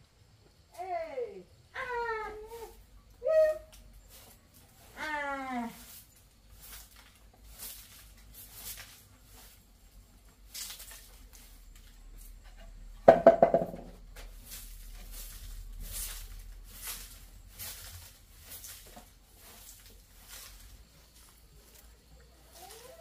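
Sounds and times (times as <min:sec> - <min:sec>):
rustling and scuffing: 0:03.6 - 0:23.0.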